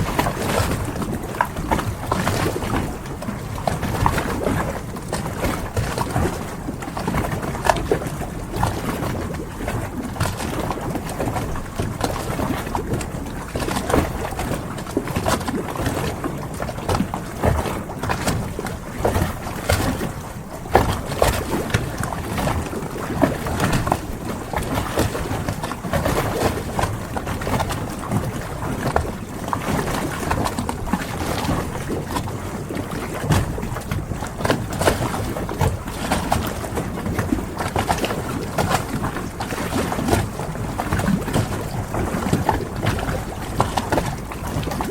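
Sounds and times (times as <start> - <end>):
small knocks and splashes: 0.0 - 44.9
water lapping against boats: 0.0 - 44.9
wind: 0.0 - 44.9.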